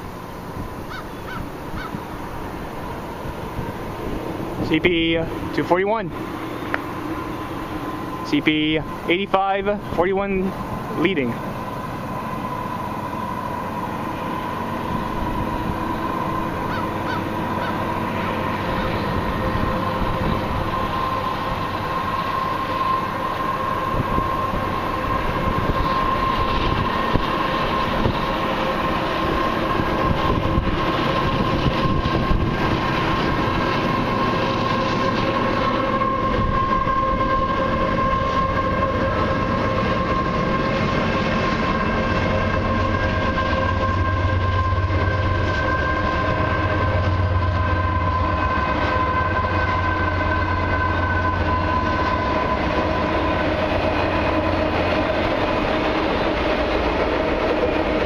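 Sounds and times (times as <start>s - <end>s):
freight train rolling past: 0.0s - 58.0s
steady high tone: 0.0s - 58.0s.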